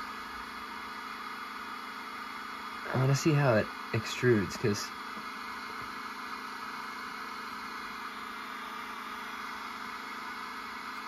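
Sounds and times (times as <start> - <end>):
printer humming and hissing: 0.0 - 11.0.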